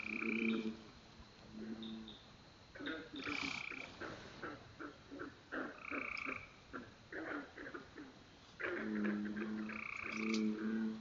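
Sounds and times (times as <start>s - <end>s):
frog low held call: 0.0s - 0.8s, 2.8s - 11.0s
frogs croaking: 0.0s - 11.0s.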